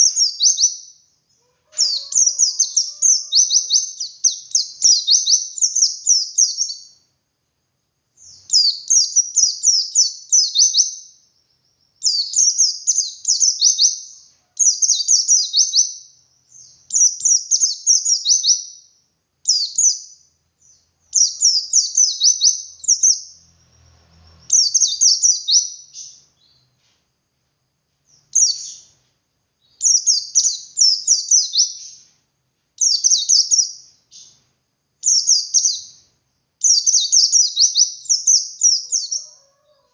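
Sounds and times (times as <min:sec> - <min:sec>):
bird twittering song: 0:00.0 - 0:07.1, 0:08.2 - 0:26.9, 0:28.0 - 0:32.2, 0:32.8 - 0:39.5.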